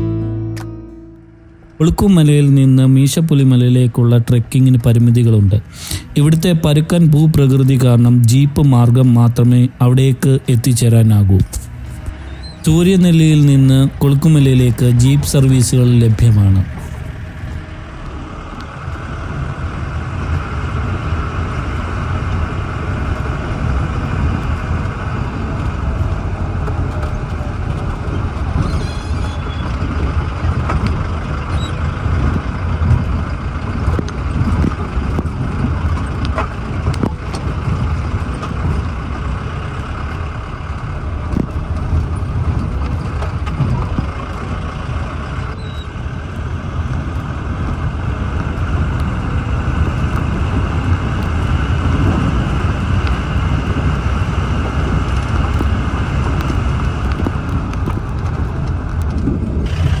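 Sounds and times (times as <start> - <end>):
off-road vehicle engine running: 0.0 - 60.0.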